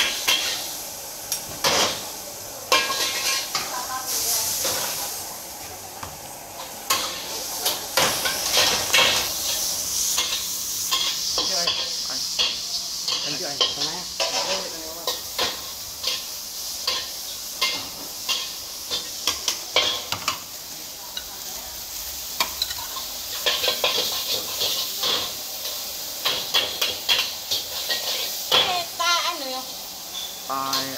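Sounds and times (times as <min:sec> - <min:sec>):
noodles sizzling: 0:00.0 - 0:30.9.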